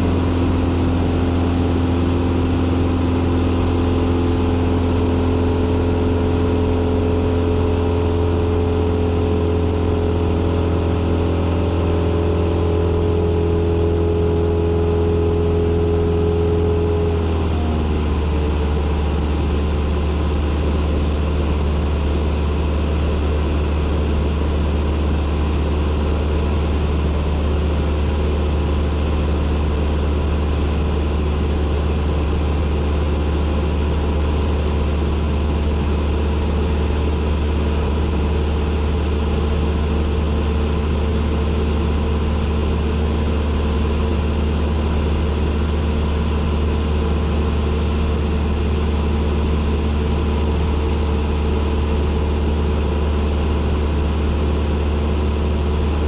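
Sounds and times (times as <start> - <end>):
airplane engine droning in flight: 0.0 - 56.0.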